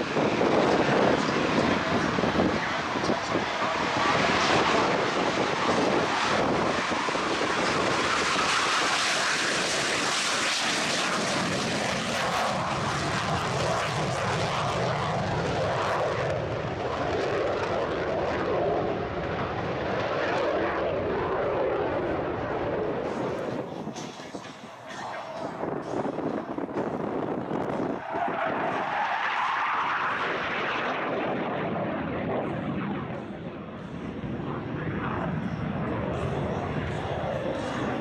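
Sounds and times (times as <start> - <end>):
jet engine roaring: 0.0 - 38.0.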